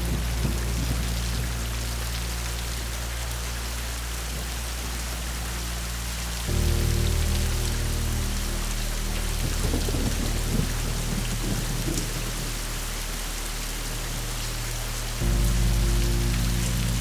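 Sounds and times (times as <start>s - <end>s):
thunder rumbling: 0.0s - 3.5s, 6.2s - 17.0s
steady rain falling: 0.0s - 17.0s.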